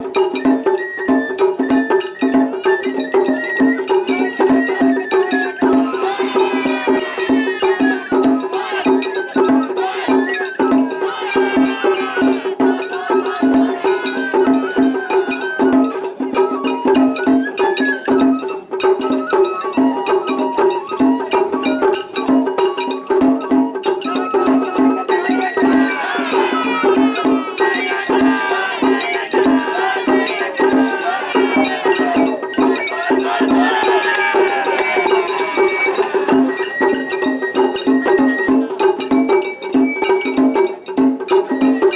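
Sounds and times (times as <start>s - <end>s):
bamboo flute melody: 0.0s - 41.9s.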